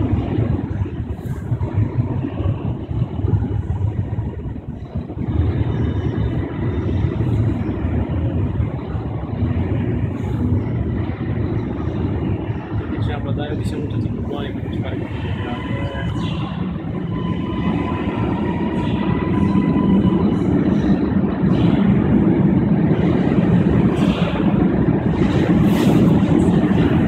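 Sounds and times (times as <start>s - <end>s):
faint high whine: 0.0s - 27.0s
metro train rumbling on track: 0.0s - 27.0s.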